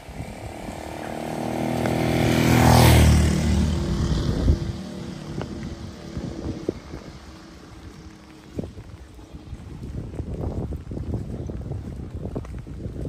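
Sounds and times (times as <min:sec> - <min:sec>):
vehicle engine passing by: 0:00.0 - 0:11.6.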